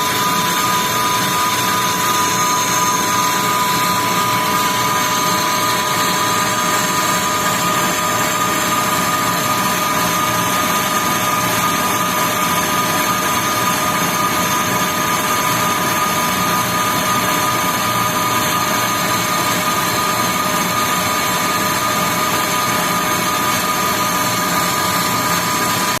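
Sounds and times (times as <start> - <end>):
metal lathe whirring: 0.0 - 26.0
steady mechanical whine: 0.0 - 26.0.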